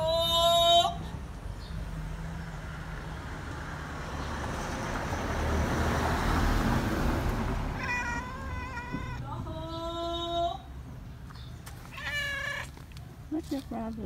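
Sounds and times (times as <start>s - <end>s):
vehicle passing: 0.9s - 14.0s.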